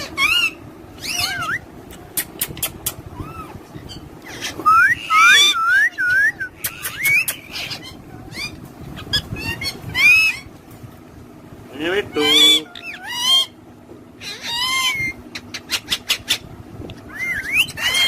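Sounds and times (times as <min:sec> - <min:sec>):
parrots whistling and calling: 0:00.0 - 0:10.6, 0:12.0 - 0:13.6, 0:14.2 - 0:18.0.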